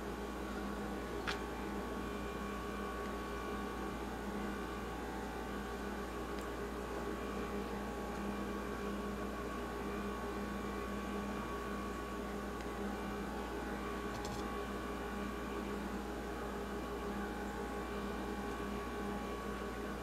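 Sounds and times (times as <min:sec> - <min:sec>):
steady drone of held tones: 0:00.0 - 0:20.0.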